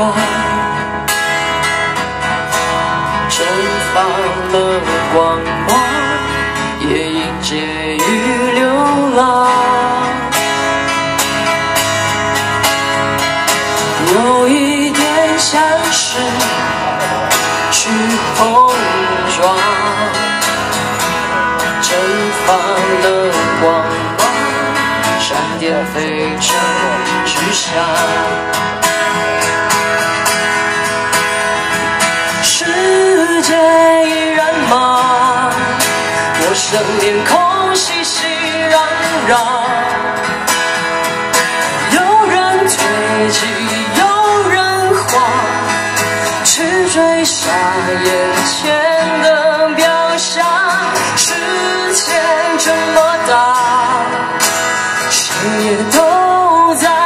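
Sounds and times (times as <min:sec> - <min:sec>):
acoustic guitars strumming: 0:00.0 - 0:57.0.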